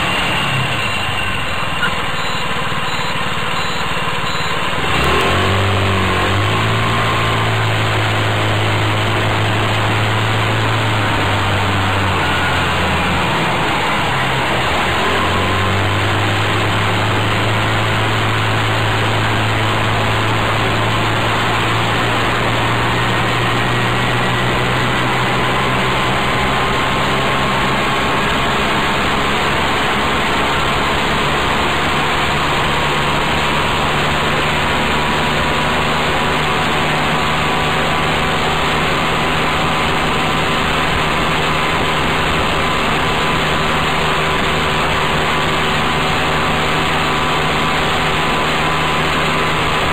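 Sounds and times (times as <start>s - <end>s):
small engine running: 0.0s - 49.9s.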